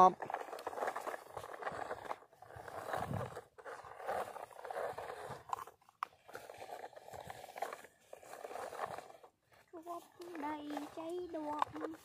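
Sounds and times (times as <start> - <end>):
toy truck scraping on dirt: 0.0 - 12.0.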